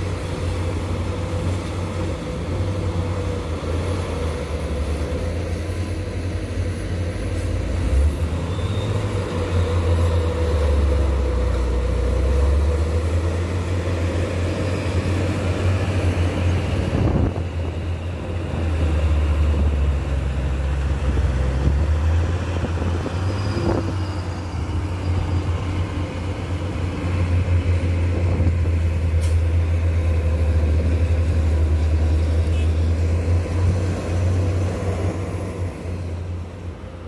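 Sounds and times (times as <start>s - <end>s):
diesel truck engine under load: 0.0s - 37.0s.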